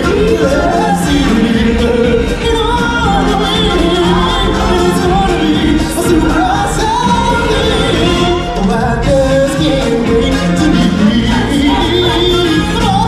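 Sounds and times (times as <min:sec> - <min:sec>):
group singing over backing track: 0:00.0 - 0:13.0.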